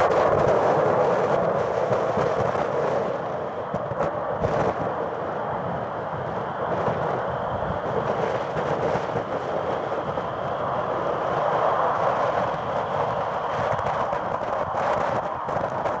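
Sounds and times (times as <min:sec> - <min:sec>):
loud jet engine roar: 0:00.0 - 0:16.0.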